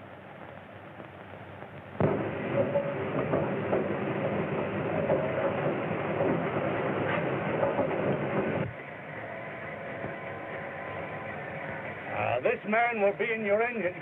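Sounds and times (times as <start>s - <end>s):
background hiss: 0.0s - 14.0s
steam train running: 2.0s - 14.0s.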